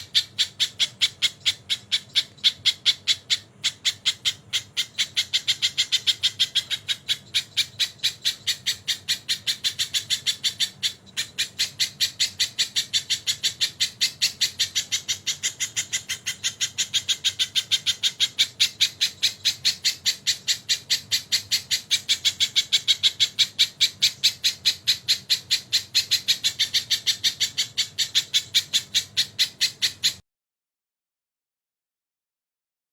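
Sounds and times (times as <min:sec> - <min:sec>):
bird calling sharp notes: 0:00.0 - 0:30.2.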